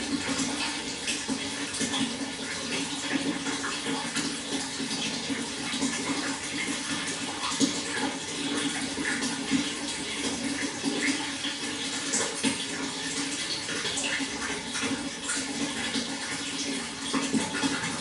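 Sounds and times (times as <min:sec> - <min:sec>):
water flowing: 0:00.0 - 0:18.0.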